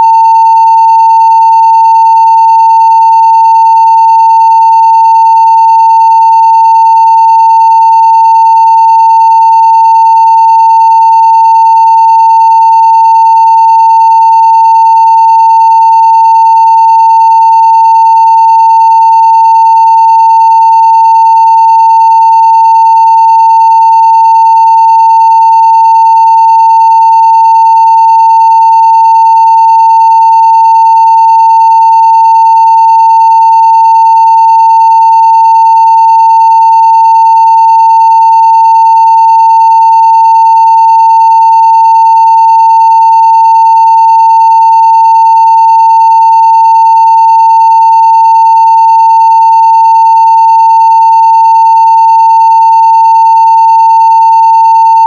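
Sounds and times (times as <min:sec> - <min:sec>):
sine test tone: 0:00.0 - 0:55.0.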